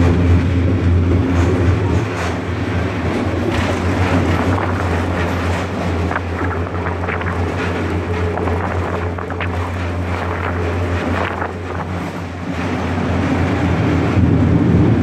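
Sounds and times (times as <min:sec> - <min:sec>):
train rumbling: 0:00.0 - 0:15.0
wind buffeting microphone: 0:00.0 - 0:15.0.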